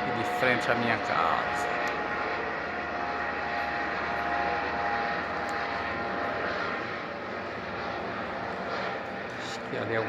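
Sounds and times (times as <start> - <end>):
helicopter passing: 0.0 - 10.0
high turbine whine: 0.0 - 10.0.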